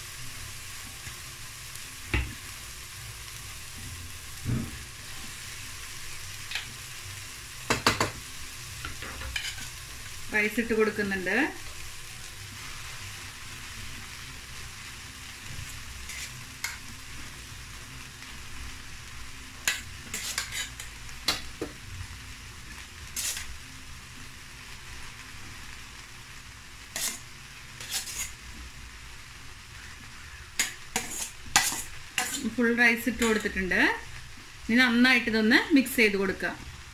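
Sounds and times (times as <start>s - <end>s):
vegetables sizzling in oil: 0.0s - 36.9s.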